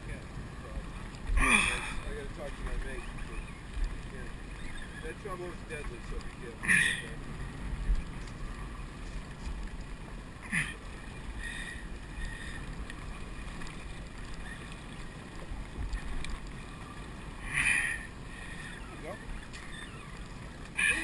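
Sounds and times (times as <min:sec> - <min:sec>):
wind and water rushing: 0:00.0 - 0:21.0.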